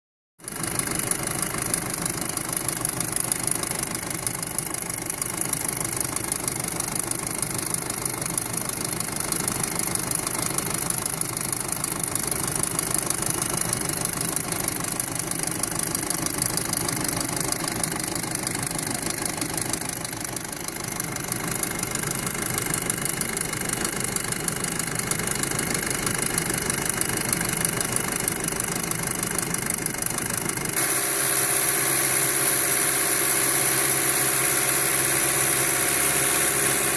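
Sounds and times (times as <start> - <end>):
car engine idling with ticking: 0.4 - 36.9.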